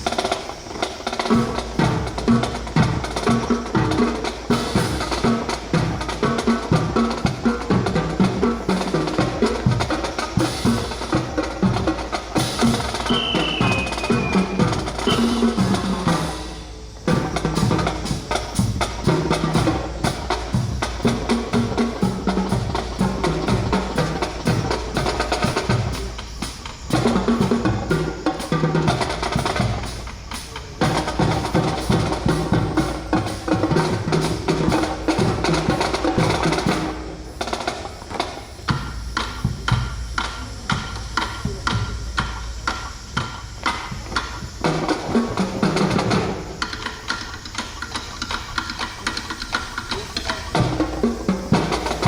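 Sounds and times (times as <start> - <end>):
music with drum beat: 0.0 - 52.0.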